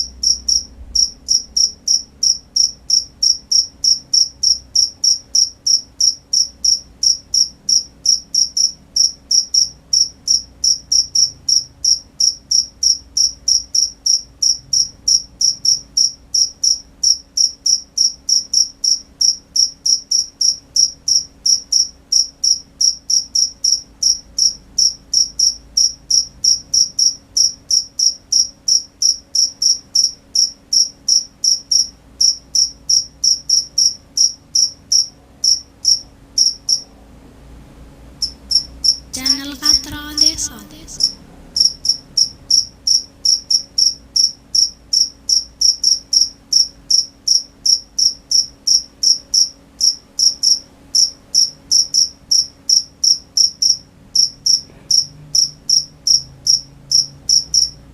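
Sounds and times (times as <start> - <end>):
cricket chirping: 0.0 - 36.9, 38.2 - 39.1, 41.0 - 57.8
faint low hum: 0.0 - 57.9.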